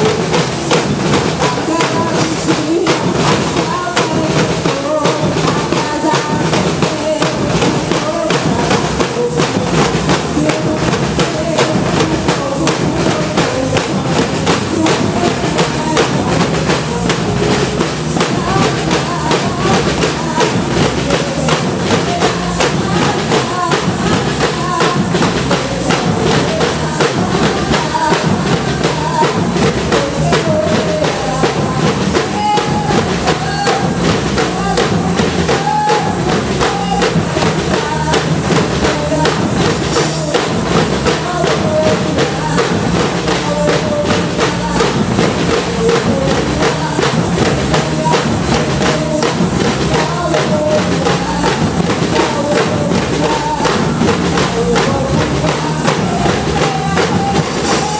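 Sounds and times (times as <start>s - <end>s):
percussion band drumming: 0.0s - 57.9s.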